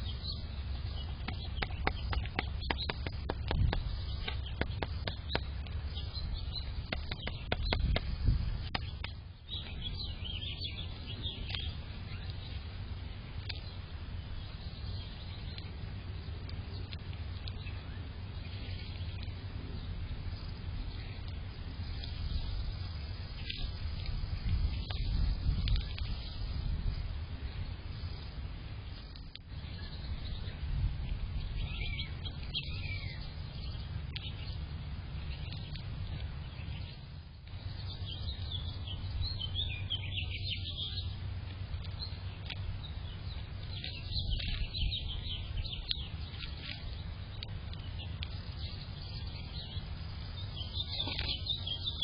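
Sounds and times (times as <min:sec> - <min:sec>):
songbirds chirping: 0:00.0 - 0:52.0
steady low rumble: 0:00.0 - 0:52.0.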